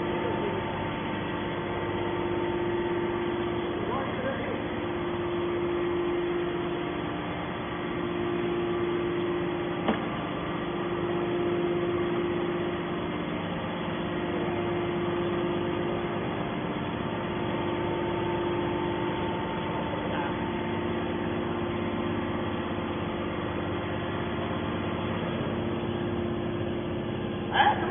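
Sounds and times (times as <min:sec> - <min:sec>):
hydraulic motor humming: 0:00.0 - 0:27.9.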